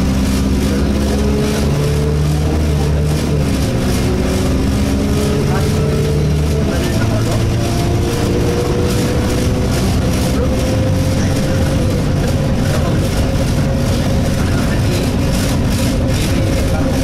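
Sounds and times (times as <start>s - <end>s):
bodywork vibration rattle: 0.0s - 17.0s
bus engine and road noise: 0.0s - 17.0s.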